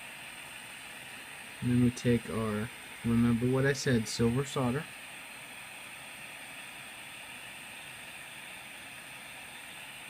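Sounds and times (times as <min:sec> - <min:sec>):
soldering iron hissing: 0:00.0 - 0:10.0.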